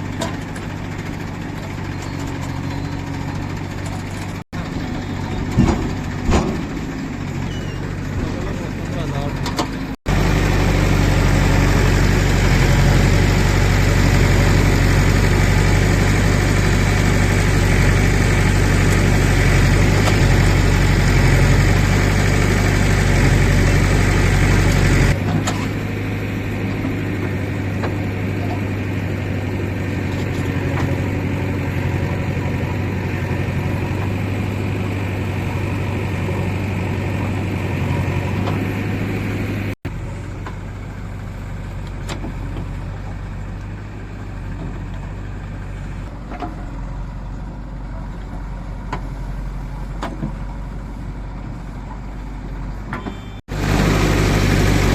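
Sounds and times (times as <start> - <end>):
diesel engine rumbling: 0.0 - 54.9.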